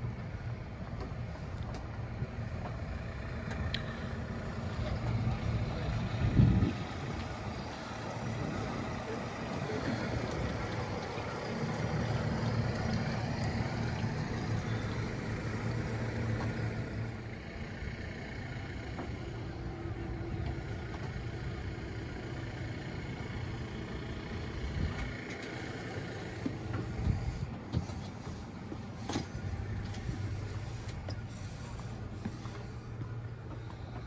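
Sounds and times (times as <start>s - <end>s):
outboard engines idling: 0.0s - 34.0s.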